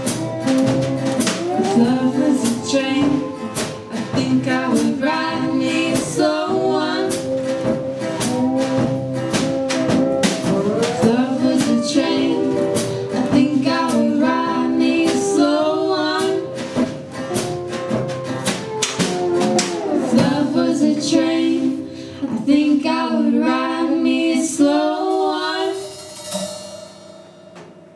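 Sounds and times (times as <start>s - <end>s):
drum kit beat: 0.0s - 21.9s, 25.0s - 27.9s
strummed acoustic guitars: 0.0s - 23.0s
acoustic bass guitar: 0.0s - 25.8s
person singing: 0.0s - 26.1s.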